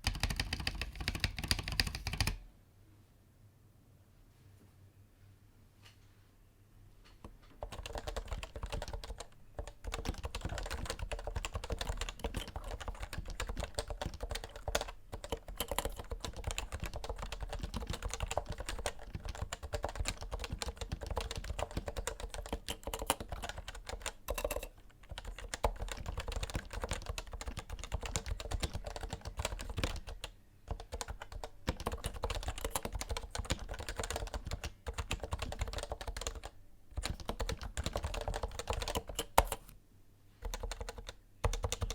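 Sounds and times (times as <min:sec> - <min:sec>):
keyboard typing: 0:00.0 - 0:02.4, 0:07.2 - 0:39.8, 0:40.4 - 0:41.9.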